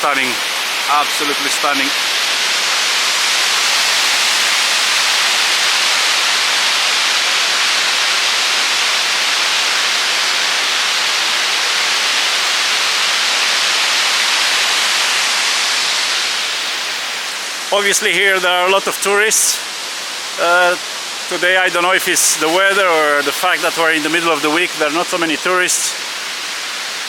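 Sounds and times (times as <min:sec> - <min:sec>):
waterfall rushing hiss: 0:00.0 - 0:27.0.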